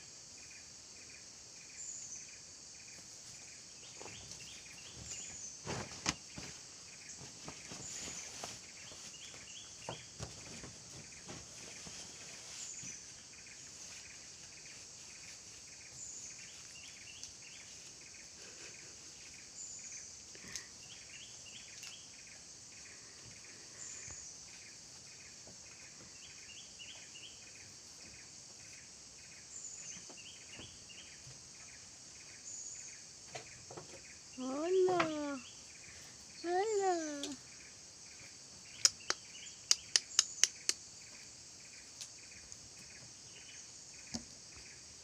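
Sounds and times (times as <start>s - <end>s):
high-pitched insect chorus: 0.0s - 45.0s
insect chirps: 0.0s - 45.0s.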